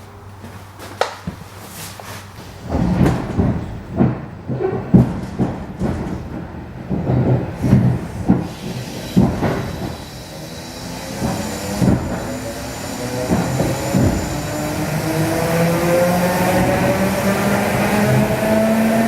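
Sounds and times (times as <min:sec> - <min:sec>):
train wheels knocking over rail joints: 0:02.3 - 0:19.0.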